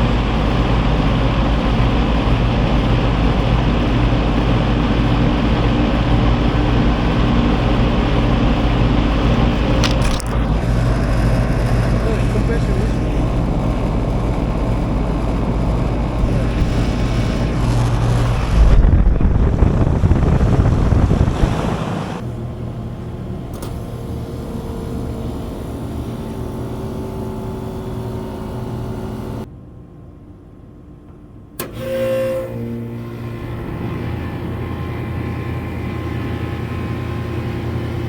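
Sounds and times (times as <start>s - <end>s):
air conditioner units humming: 0.0s - 38.0s.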